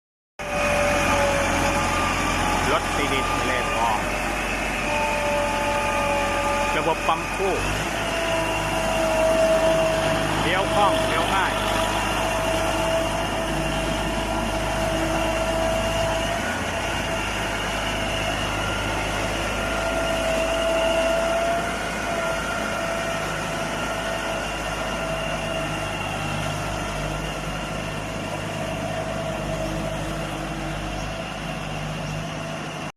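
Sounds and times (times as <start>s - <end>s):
tilling machine engine running: 0.4s - 32.9s.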